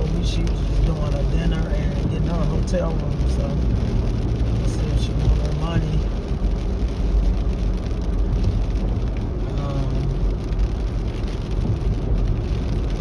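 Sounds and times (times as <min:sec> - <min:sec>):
car road and engine noise: 0:00.0 - 0:13.0
tyres on wet road: 0:00.0 - 0:13.0.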